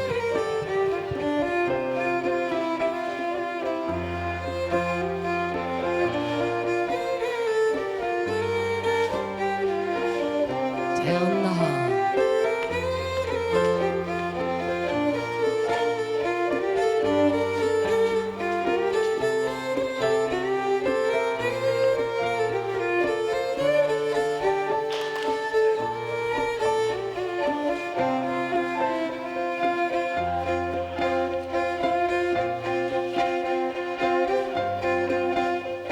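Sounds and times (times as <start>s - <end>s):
fiddle melody: 0.0s - 35.9s.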